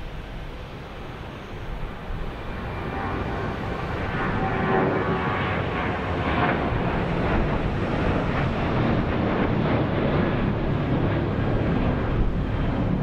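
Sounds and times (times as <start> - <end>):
jet airliner climbing: 0.0 - 13.0.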